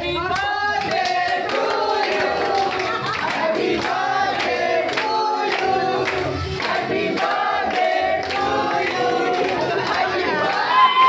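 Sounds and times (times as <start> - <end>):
crowd singing together: 0.0 - 11.0
hand claps: 0.3 - 10.7.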